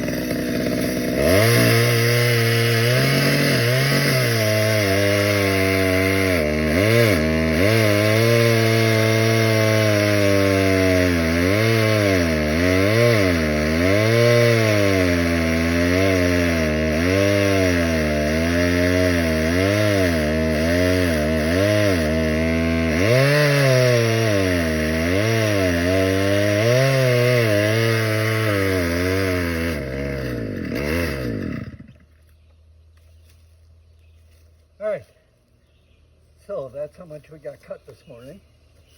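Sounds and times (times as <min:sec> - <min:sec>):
chainsaw cutting wood: 0:00.0 - 0:32.4.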